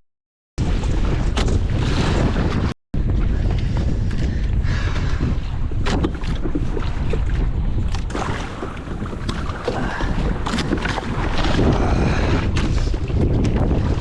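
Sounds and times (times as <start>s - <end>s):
water splashing against hull: 0.6s - 14.0s
wind buffeting microphone: 0.6s - 14.0s.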